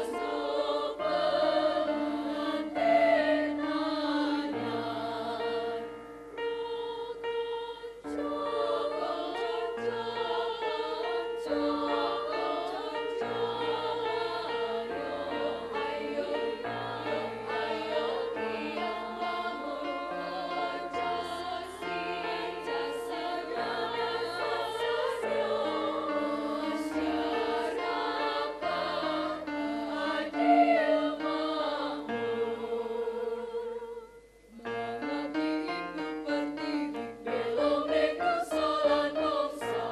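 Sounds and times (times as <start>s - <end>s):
female choir singing: 0.0s - 39.9s.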